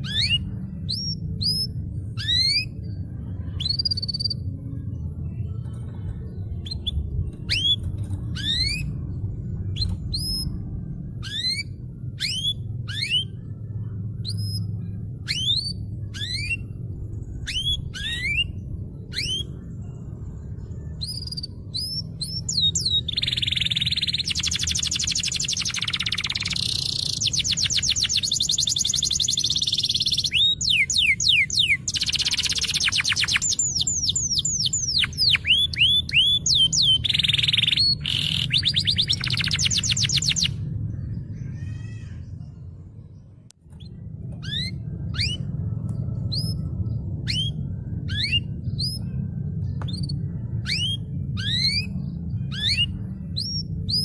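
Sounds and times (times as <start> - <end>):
canary singing: 0.0 - 4.6, 6.4 - 42.4, 43.7 - 54.0
low hum: 0.0 - 54.0.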